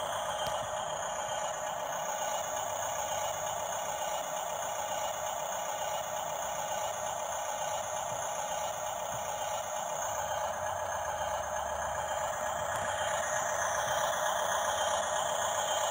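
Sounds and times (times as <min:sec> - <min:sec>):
toy simulated engine rattle: 0:00.0 - 0:15.9.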